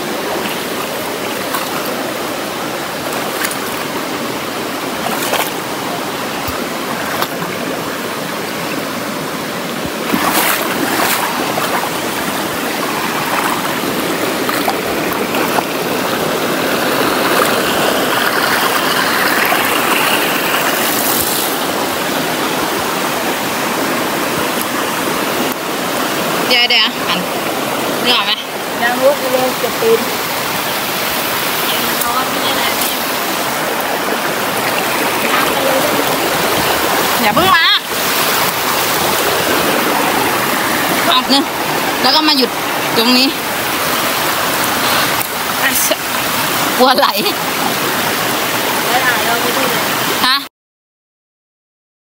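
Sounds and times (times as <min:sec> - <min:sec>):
stream rushing over stones: 0:00.0 - 0:50.4.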